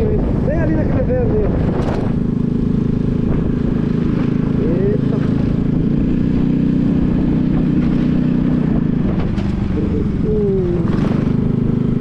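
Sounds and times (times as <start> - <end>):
small motorcycle engine running: 0.0 - 12.0
wind noise: 0.0 - 12.0.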